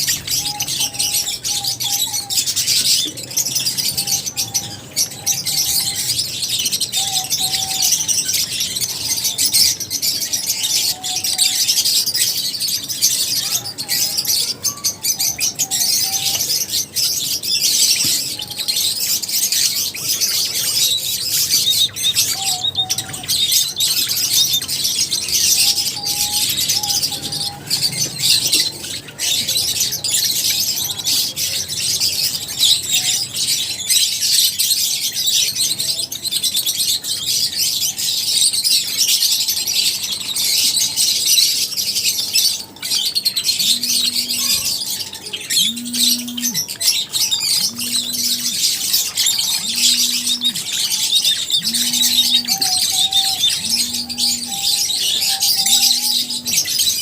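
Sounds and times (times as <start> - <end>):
lovebirds chattering: 0.0 - 57.0.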